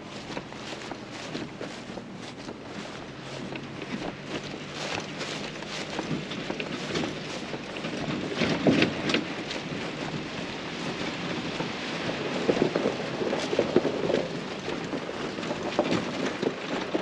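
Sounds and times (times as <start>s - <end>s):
footsteps crunching through dry grass: 0.0s - 17.0s.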